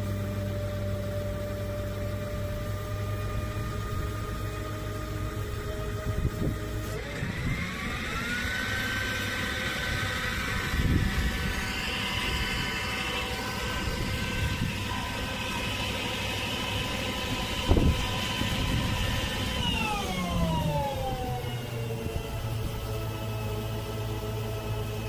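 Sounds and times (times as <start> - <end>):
truck engine speeding up: 2.4 - 25.0.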